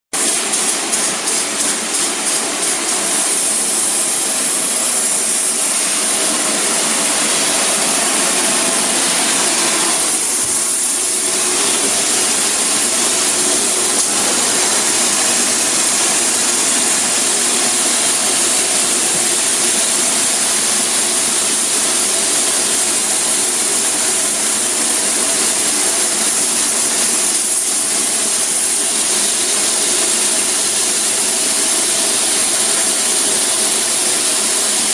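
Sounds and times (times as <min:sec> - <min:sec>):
machine hum: 0:00.2 - 0:34.9
spray foam gun hissing: 0:00.2 - 0:34.9.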